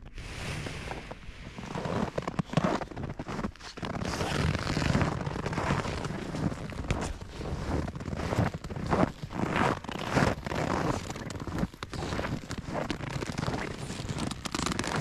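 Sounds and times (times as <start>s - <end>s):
cattle moving on snow: 0.7s - 15.0s
footsteps crunching frozen snow: 0.8s - 15.0s.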